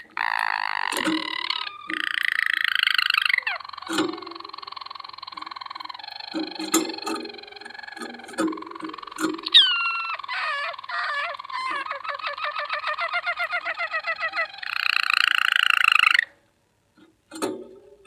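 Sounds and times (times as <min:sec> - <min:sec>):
canary singing: 0:00.0 - 0:16.4.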